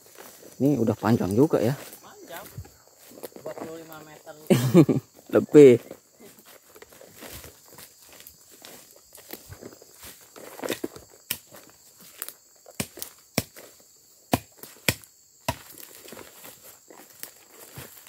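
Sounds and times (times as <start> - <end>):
footsteps on grass and fronds: 0.0 - 18.0.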